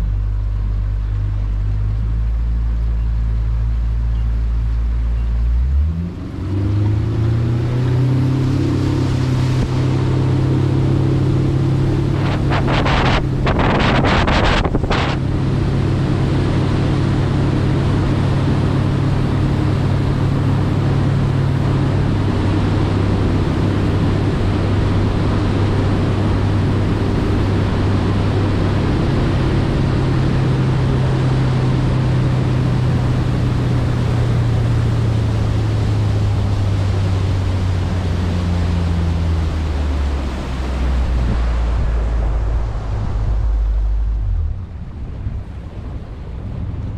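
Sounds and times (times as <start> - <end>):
outboard motor running: 0.0 - 46.8
water noise: 0.0 - 46.9
wind: 0.0 - 46.9.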